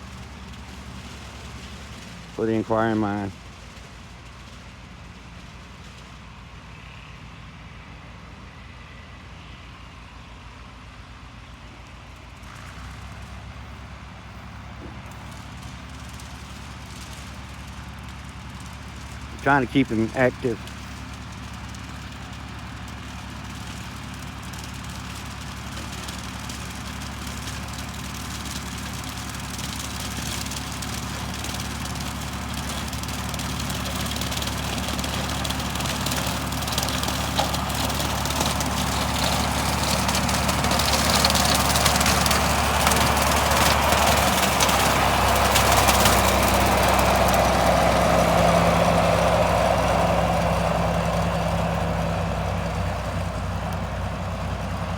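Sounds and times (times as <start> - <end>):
tractor engine with rotary mower: 0.0 - 54.9.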